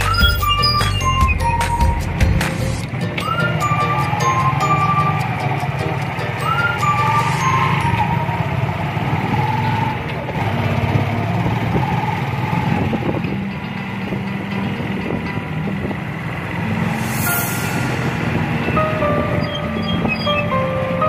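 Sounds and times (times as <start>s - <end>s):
road noise: 0.0s - 21.0s
motorcycle engine running: 0.1s - 21.0s.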